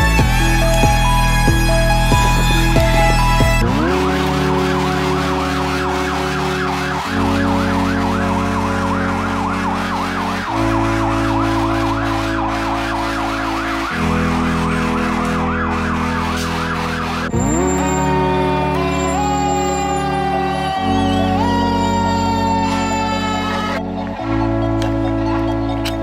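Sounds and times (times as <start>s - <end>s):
low sustained tones: 0.0s - 26.0s
siren yelping: 0.0s - 26.0s.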